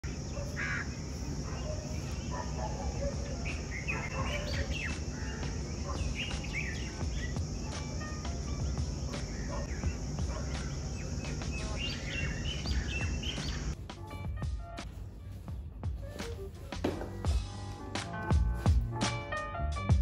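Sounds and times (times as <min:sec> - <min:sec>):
birds chirping: 0:00.0 - 0:19.0
constant high hiss: 0:00.0 - 0:19.4.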